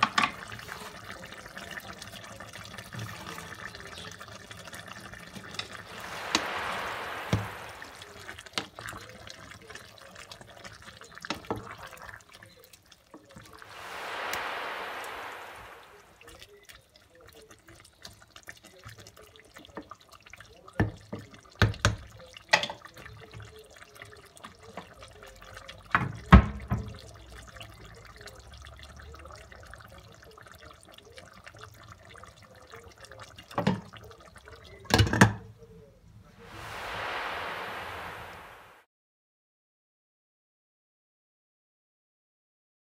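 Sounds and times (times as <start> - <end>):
pot simmering with soft bubbling: 0.0 - 38.8.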